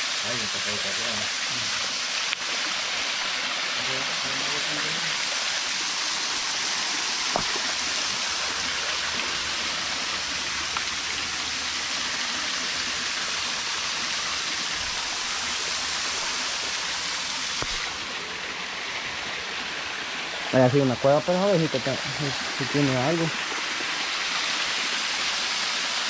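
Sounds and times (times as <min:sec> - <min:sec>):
small waterfall splashing: 0:00.0 - 0:26.0.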